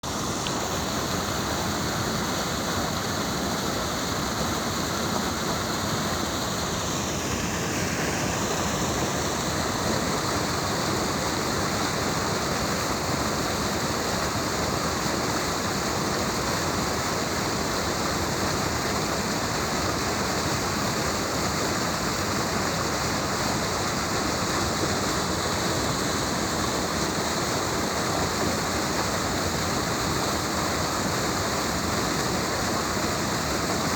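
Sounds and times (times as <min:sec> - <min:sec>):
river current rushing: 0:00.0 - 0:33.9.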